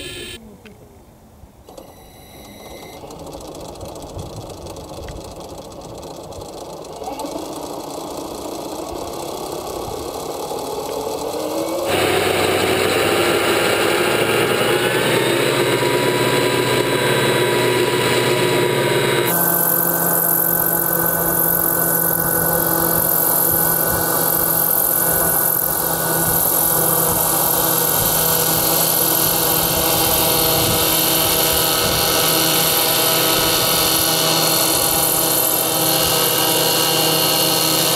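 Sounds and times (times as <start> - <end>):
model helicopter engine spooling up: 0.0 - 0.4, 2.7 - 37.9.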